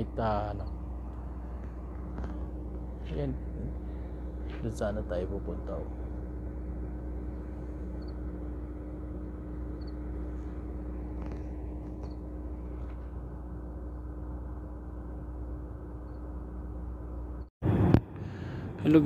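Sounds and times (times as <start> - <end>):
low droning city hum: 0.0 - 19.0.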